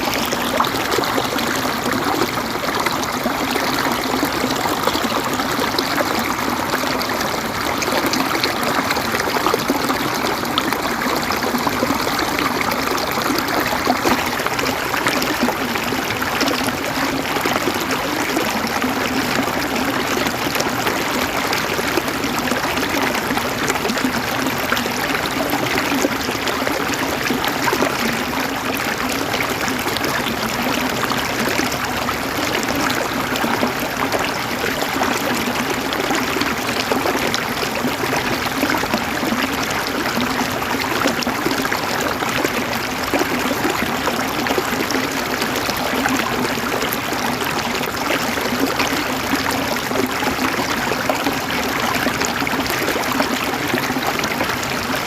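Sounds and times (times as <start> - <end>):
river gurgling over stones: 0.0 - 55.0.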